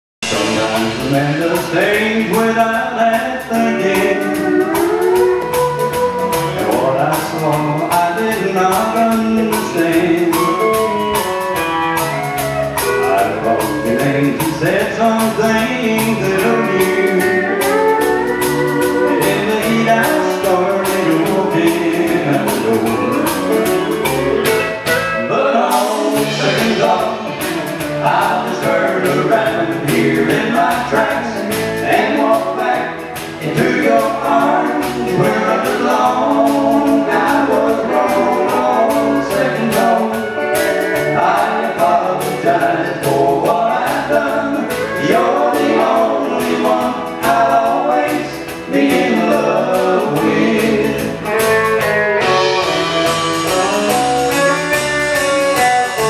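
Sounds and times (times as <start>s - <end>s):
man singing: 0.2s - 11.3s, 12.3s - 24.6s, 25.2s - 51.5s, 52.2s - 56.0s
acoustic guitar strumming: 0.2s - 56.0s
bass: 0.2s - 56.0s
drums: 0.2s - 56.0s
electric guitar: 0.2s - 56.0s.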